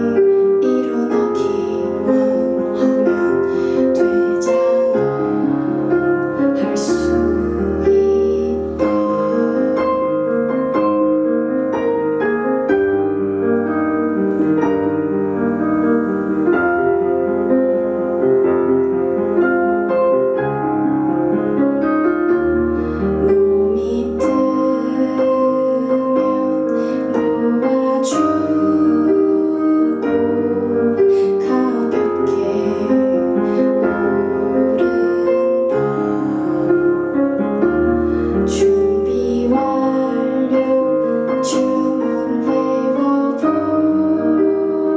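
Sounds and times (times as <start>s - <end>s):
keyboard chords and melody: 0.0s - 44.9s.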